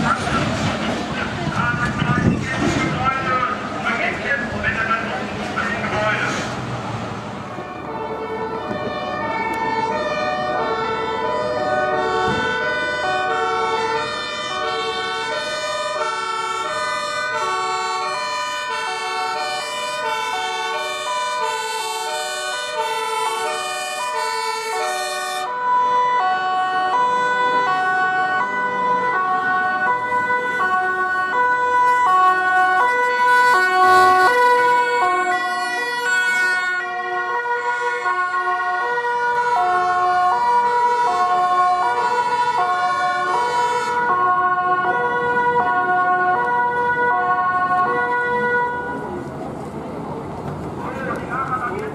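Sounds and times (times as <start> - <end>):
two-tone sirens: 0.0 - 51.9.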